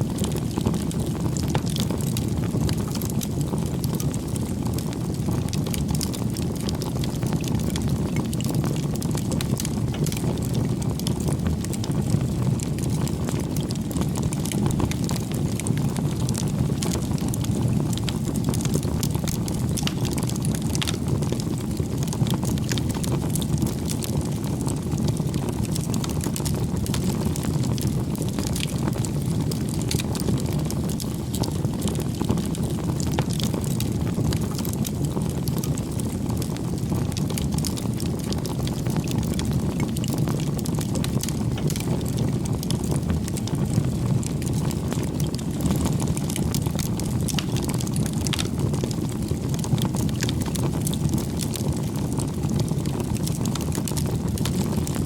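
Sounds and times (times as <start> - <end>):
bonfire flames rushing: 0.0 - 55.0
burning wood crackling and popping: 0.0 - 55.0.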